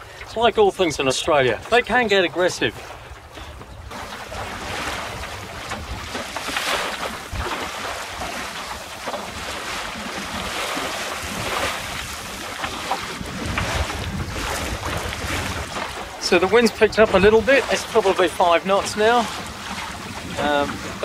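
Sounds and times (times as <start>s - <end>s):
water washing along hull: 0.0s - 21.0s
wind rumbling on microphone: 2.6s - 21.0s.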